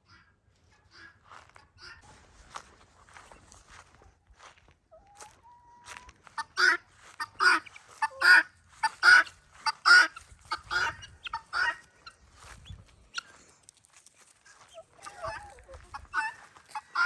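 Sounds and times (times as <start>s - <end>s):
guinea fowl calling: 0.9s - 3.5s, 4.4s - 13.4s, 14.4s - 17.0s.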